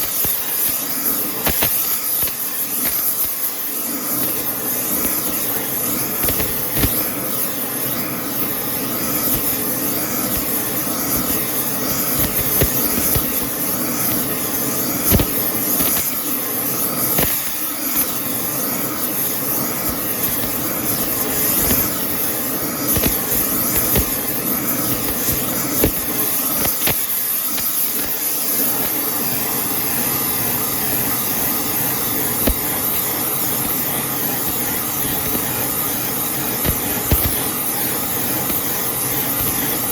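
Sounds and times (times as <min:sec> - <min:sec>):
welding arc hissing and crackling: 0:00.0 - 0:39.9.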